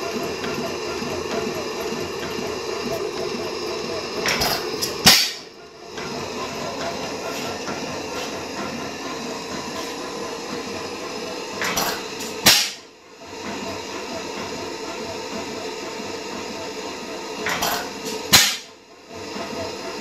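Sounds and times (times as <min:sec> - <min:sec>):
oil engine running: 0:00.0 - 0:20.0.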